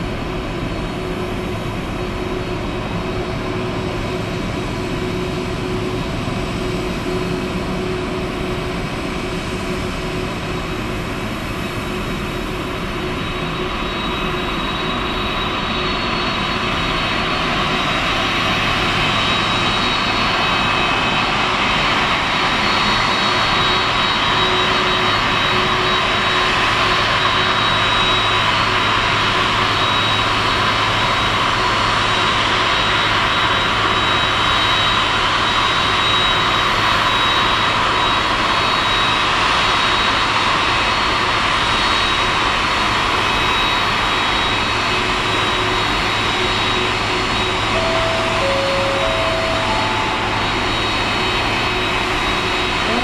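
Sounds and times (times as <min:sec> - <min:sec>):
jet engines whining: 0:00.0 - 0:37.1, 0:39.3 - 0:53.0.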